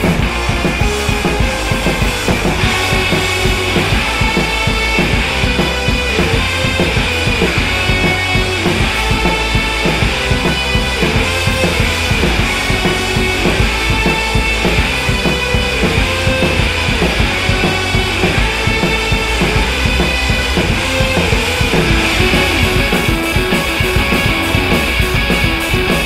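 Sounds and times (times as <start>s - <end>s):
drum kit beat: 0.0s - 26.0s
rock music: 0.0s - 26.0s.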